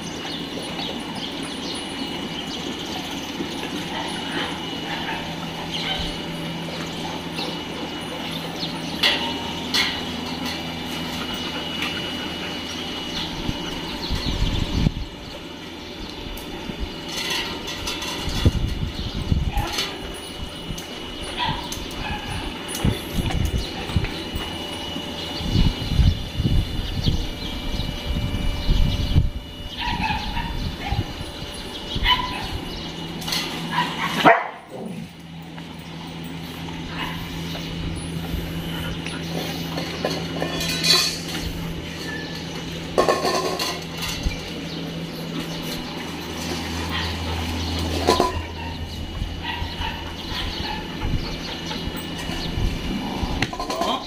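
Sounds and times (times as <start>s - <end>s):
dogs yipping and barking: 0.0s - 26.1s, 29.0s - 54.0s
steady low hum: 0.0s - 54.0s.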